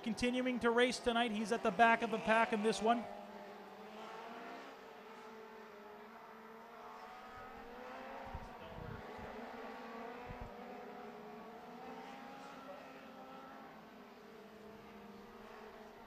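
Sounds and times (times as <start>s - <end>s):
race car engines at low revs: 0.0s - 16.0s.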